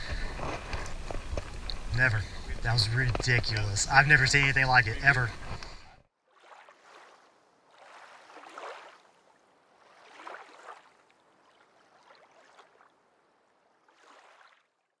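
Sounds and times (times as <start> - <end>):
faint splashing water: 0.0 - 15.0.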